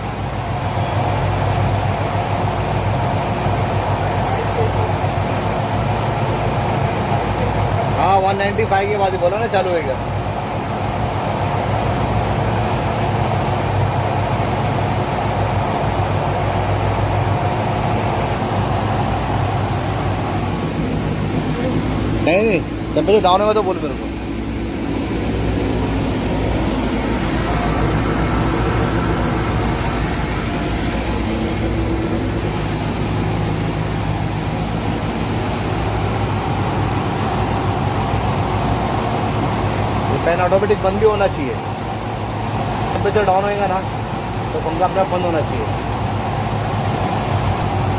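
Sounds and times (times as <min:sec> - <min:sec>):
car engine idling: 0:00.0 - 0:47.9
electric radiator fan running: 0:00.0 - 0:47.9.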